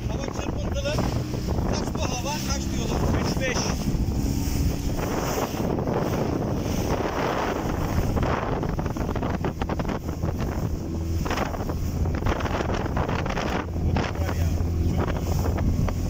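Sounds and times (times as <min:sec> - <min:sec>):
outboard engine drone: 0:00.0 - 0:16.0
water rushing along hull: 0:00.0 - 0:16.0
wind buffeting on microphone: 0:00.0 - 0:16.0.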